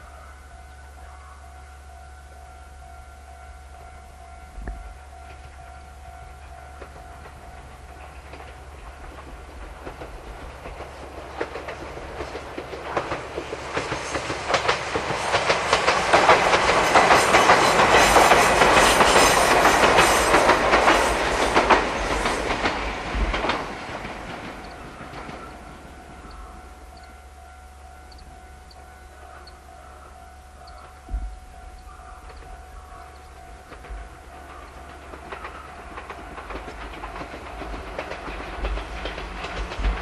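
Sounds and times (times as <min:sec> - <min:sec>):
electric train passing: 0:00.0 - 0:40.0
wheels clicking over rail joints: 0:06.2 - 0:30.0, 0:30.6 - 0:40.0.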